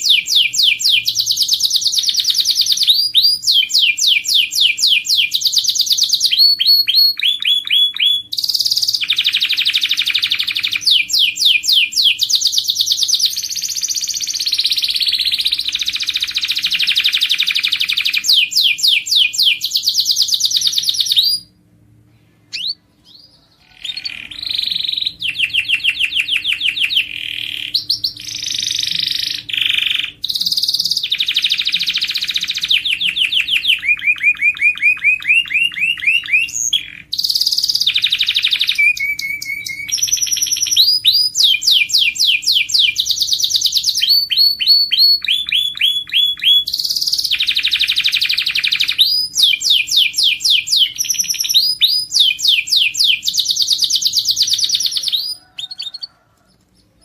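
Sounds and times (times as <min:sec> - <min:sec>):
canary singing trills: 0:00.0 - 0:21.6, 0:22.4 - 0:57.0
faint steady hum: 0:00.0 - 0:57.0.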